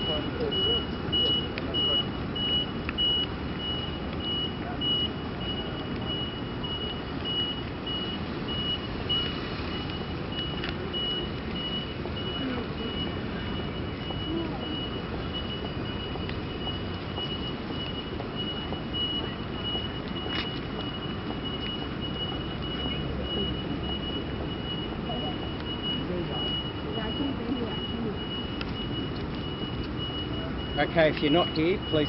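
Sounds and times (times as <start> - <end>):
high electronic beeper: 0.0 - 32.0
traffic on wet street: 0.0 - 32.0.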